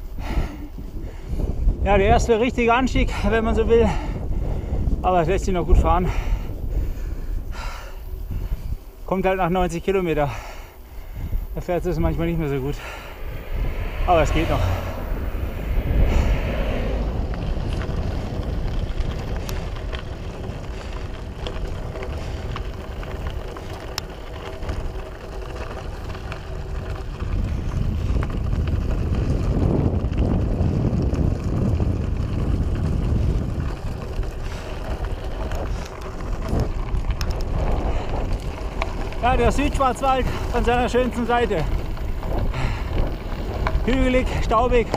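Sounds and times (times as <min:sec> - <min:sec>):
bike tyres rumbling on gravel: 0:00.0 - 0:44.9
wind buffeting microphone: 0:00.0 - 0:44.9.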